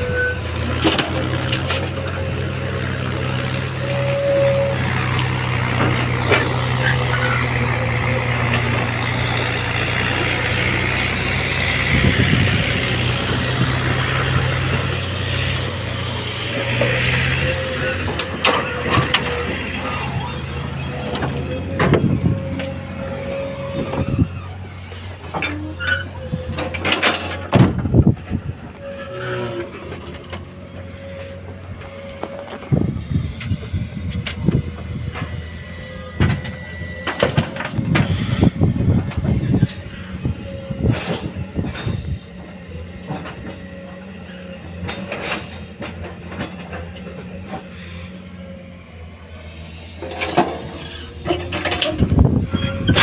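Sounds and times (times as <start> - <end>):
excavator diesel engine running: 0.0 - 53.0
excavator digging earth and rock: 0.0 - 53.0.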